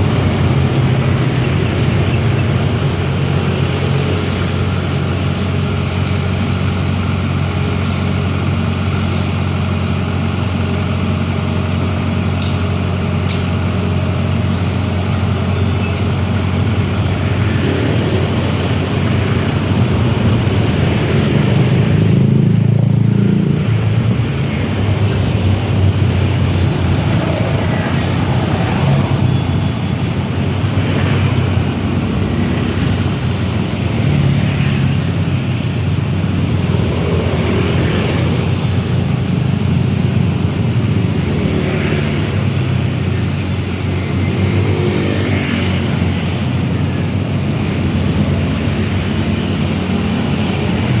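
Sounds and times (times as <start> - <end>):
excavator diesel engine running: 0.0 - 51.0.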